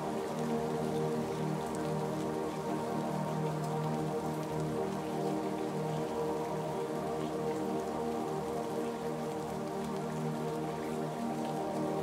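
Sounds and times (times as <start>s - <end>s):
scattered raindrops: 0.0s - 12.0s
soft music of held chords: 0.0s - 12.0s.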